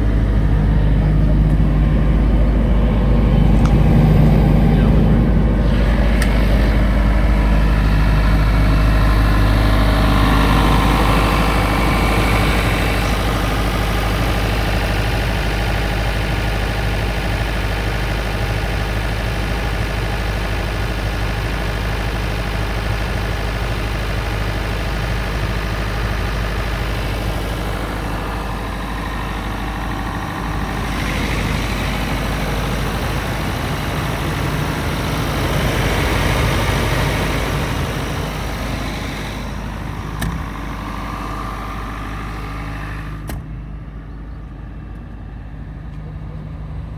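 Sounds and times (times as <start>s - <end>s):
diesel generator humming: 0.0s - 46.9s.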